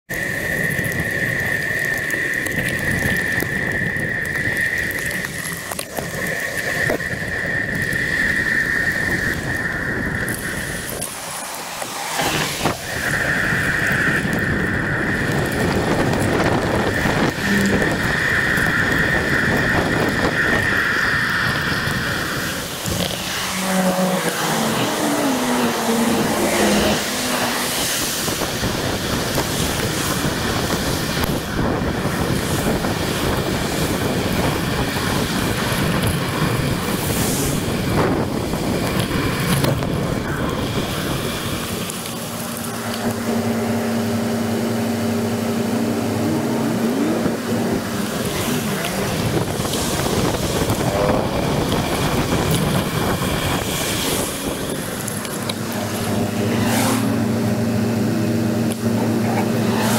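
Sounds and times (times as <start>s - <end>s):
tyres hissing on wet road: 0.1s - 59.9s
wind buffeting microphone: 0.1s - 59.9s
low engine hum: 0.2s - 59.9s
vehicles passing: 0.2s - 59.9s.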